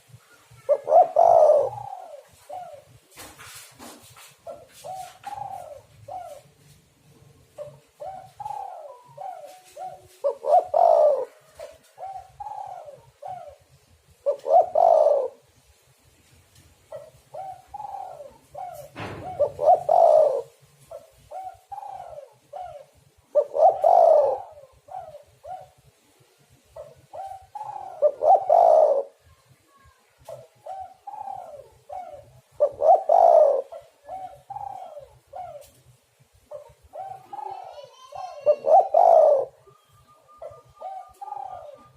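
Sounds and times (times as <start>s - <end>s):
dove cooing: 0.0s - 3.2s, 3.8s - 15.6s, 16.9s - 41.9s.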